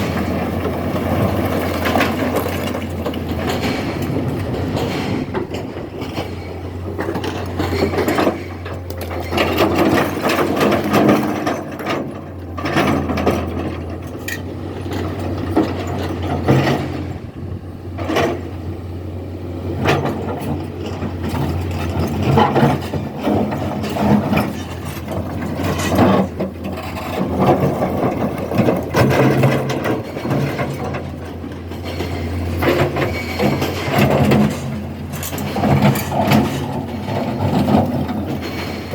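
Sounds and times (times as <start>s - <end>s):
metallic clanks and rattles: 0.0s - 18.6s, 19.8s - 38.9s
excavator engine drone: 0.0s - 38.9s.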